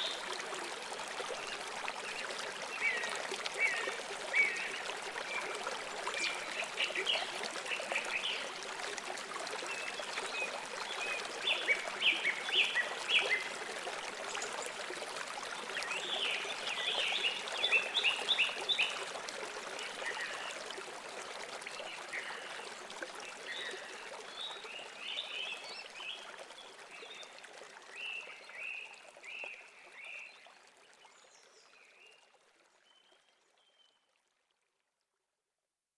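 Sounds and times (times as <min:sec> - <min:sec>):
river water running: 0:00.0 - 0:34.7.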